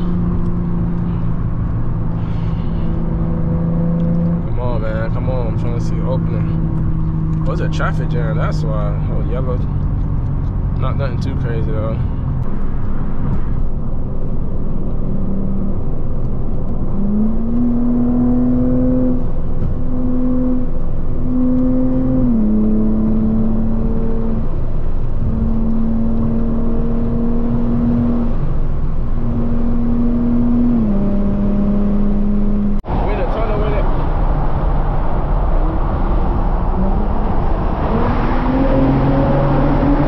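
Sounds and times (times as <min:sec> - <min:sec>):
car driving from inside cabin: 0:00.0 - 0:40.0.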